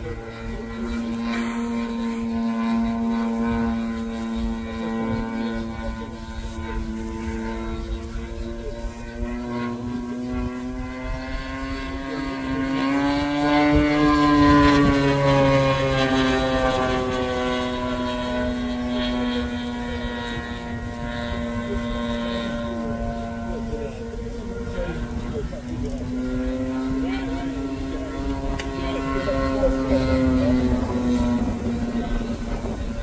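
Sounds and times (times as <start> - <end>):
model airplane engine: 0.0 - 33.0
propeller noise: 0.0 - 33.0.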